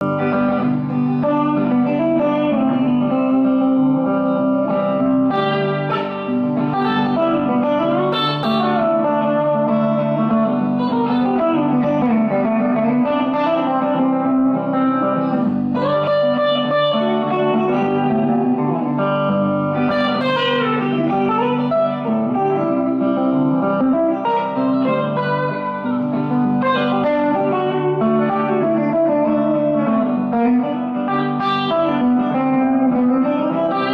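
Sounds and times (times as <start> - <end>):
electric guitar lead lines: 0.0 - 33.9.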